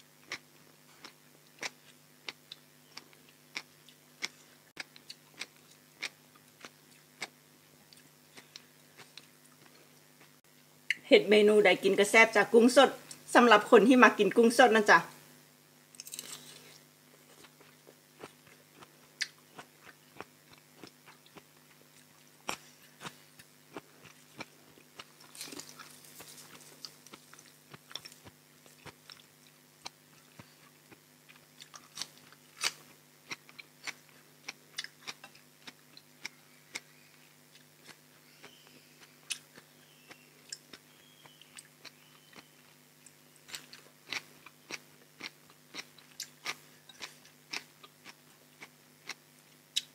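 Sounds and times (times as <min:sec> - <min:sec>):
crunchy chewing: 0:00.2 - 0:10.4, 0:16.0 - 0:49.9.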